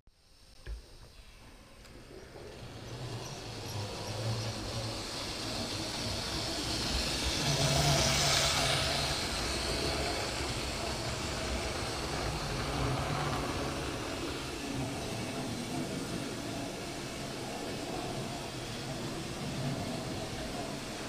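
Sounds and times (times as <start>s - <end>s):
model train motor humming: 1.8s - 21.0s
train wheels rattling on rails: 2.0s - 21.0s.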